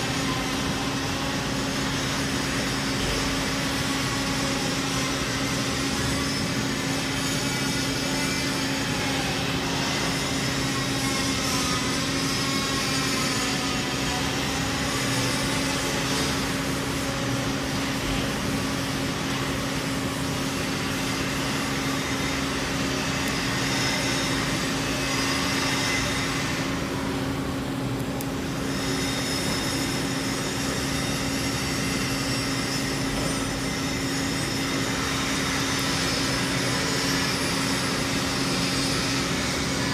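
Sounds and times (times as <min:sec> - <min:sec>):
welding arc hiss and hum: 0:00.0 - 0:39.9.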